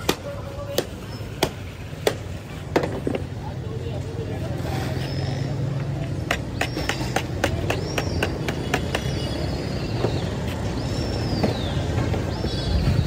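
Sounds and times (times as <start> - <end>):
street traffic rumbling: 0.0 - 13.0.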